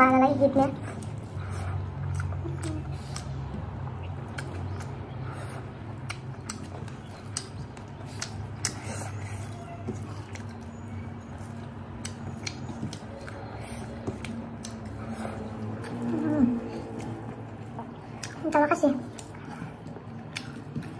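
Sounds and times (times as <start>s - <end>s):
steady low hum: 0.0s - 20.9s
chewing and mouth smacks: 0.8s - 20.9s.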